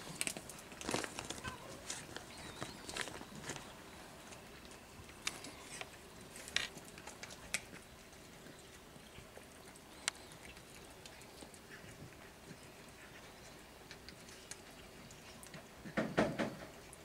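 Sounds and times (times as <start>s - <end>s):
cats crunching dry kibble: 0.0s - 17.0s
faint steady hiss: 0.0s - 17.0s.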